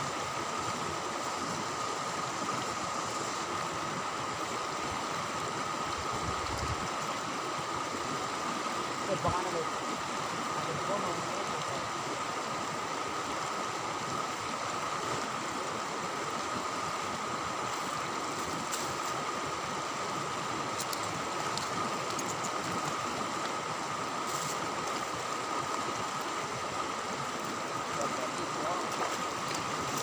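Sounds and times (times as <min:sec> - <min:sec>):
flowing river water: 0:00.0 - 0:30.0.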